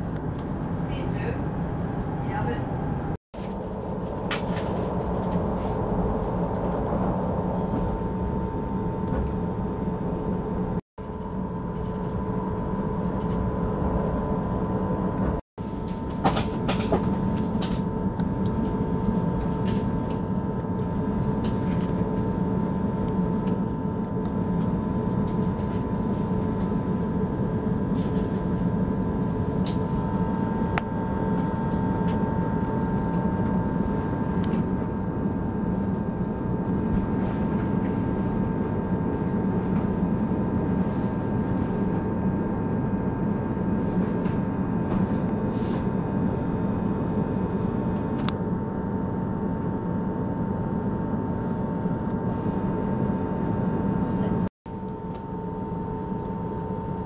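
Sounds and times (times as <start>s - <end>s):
train rumble and hum: 0.0s - 48.4s.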